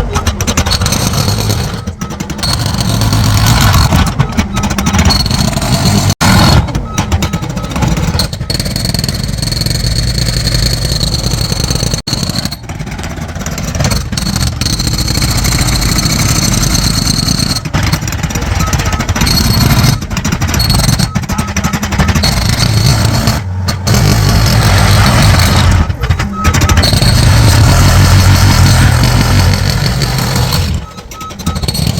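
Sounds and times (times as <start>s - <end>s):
construction equipment engine racket: 0.0s - 31.9s.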